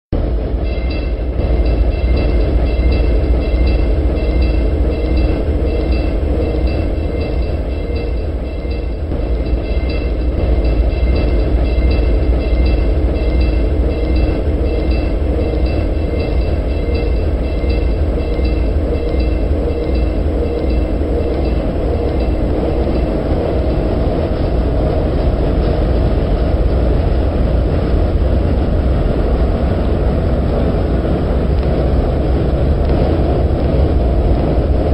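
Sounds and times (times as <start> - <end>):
streetcar rumbling in tunnel: 0.1 - 34.9
pulsing whine tones: 0.2 - 34.9.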